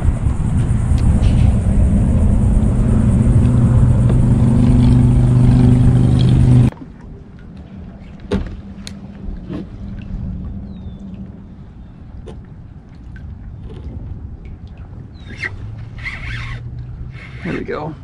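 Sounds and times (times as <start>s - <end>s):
road traffic rumble: 0.0s - 6.7s, 8.2s - 18.0s
low hum: 0.0s - 17.4s.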